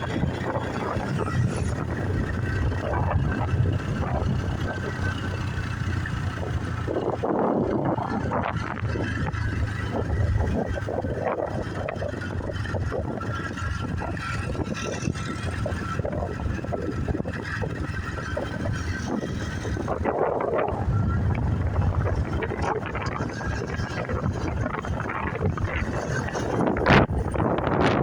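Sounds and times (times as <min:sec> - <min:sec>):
motorbike engine: 0:00.0 - 0:28.0
wind buffeting microphone: 0:00.0 - 0:28.0.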